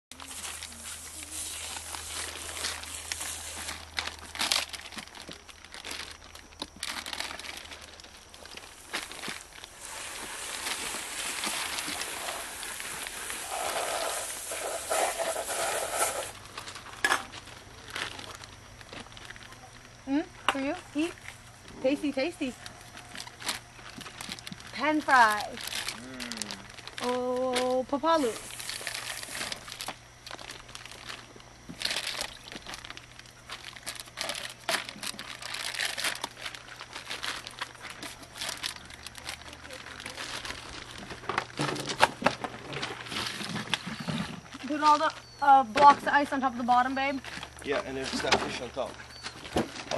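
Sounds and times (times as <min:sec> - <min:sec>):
plastic bags rustling: 0:00.1 - 0:49.9.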